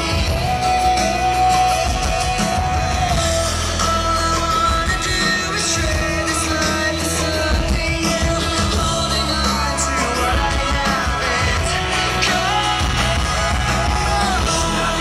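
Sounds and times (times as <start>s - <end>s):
loud rock music with singing: 0.0s - 15.0s.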